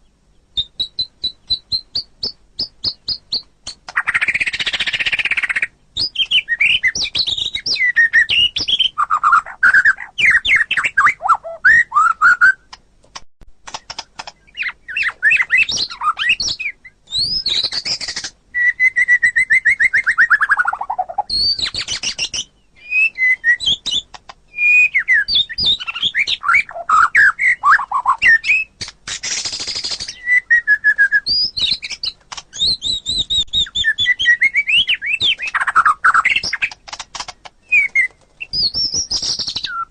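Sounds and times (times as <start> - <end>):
bird singing whistled phrases: 0.6 - 12.7, 14.5 - 36.8, 37.6 - 39.9.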